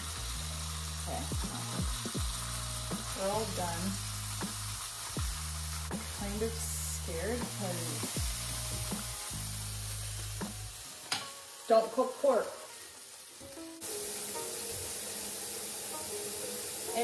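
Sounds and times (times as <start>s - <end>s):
pork sizzling in a pan: 0.0s - 17.0s.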